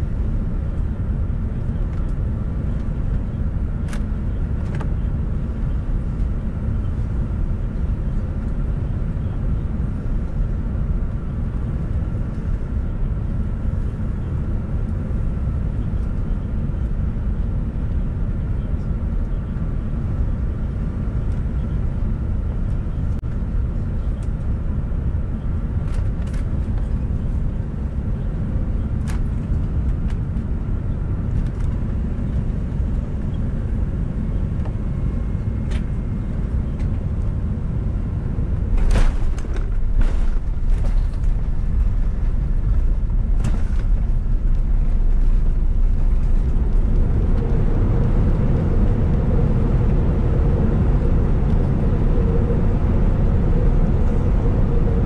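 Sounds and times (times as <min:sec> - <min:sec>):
jet engines and airflow in cabin: 0:00.0 - 0:55.0.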